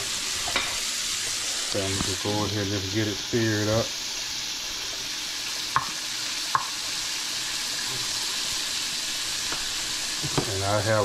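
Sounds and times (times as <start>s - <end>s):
fish sizzling in butter: 0.0s - 11.0s.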